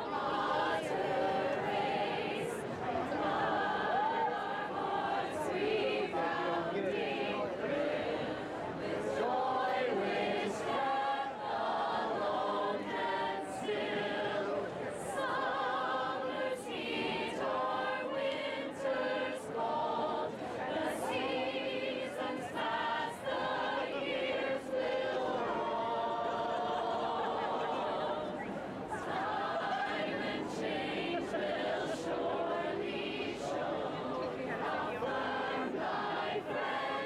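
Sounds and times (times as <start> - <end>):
young women singing in chorus: 0.0 - 37.0.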